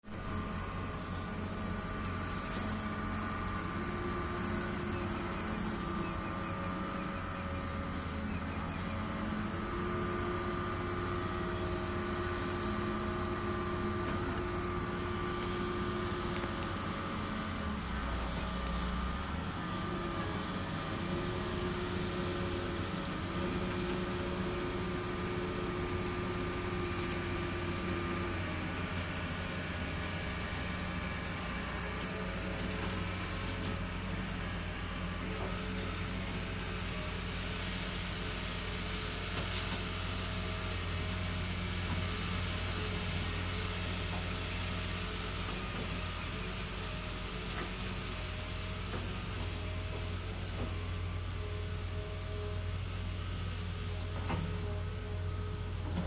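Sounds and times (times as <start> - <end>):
diesel engine running under load: 0.0 - 56.0
hydraulic whine: 0.1 - 56.0.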